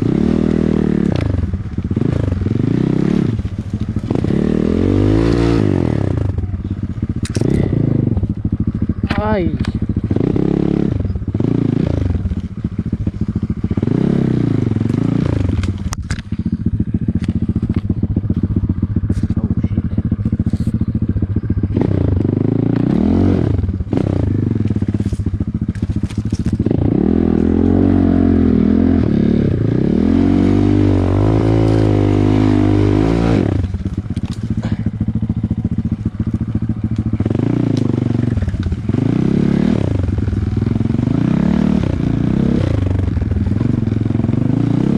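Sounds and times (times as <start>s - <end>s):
off-road engine revving: 0.0s - 44.9s.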